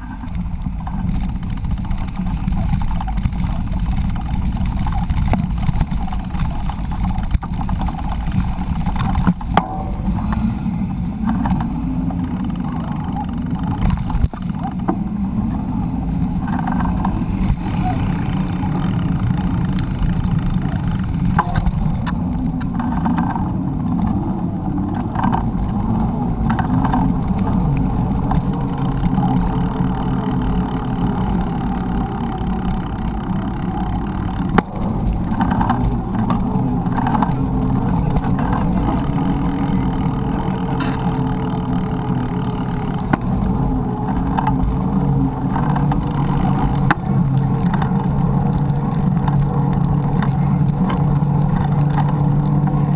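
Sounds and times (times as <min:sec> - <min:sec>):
city car traffic: 0:00.0 - 0:52.9
road and wind rumble: 0:00.0 - 0:52.9.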